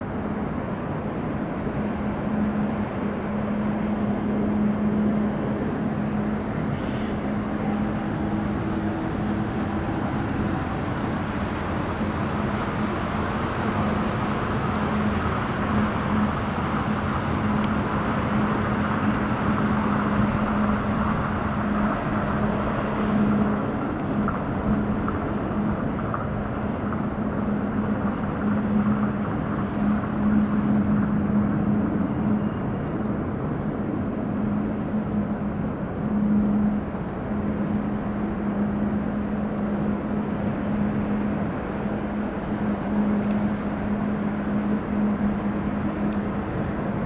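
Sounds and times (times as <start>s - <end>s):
constant low hum: 0.0s - 47.0s
jet engines roaring: 2.6s - 47.0s.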